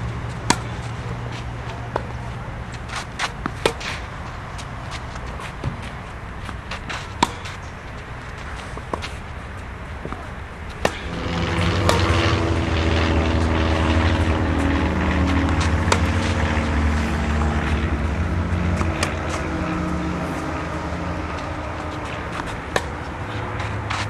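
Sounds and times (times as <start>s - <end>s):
engine drone with low hum: 0.0s - 24.0s
tennis balls struck by racket: 0.2s - 24.0s.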